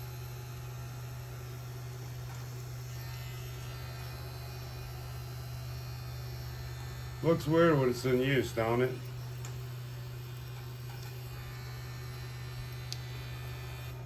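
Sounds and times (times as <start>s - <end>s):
electric grinder motor humming: 0.0s - 14.0s.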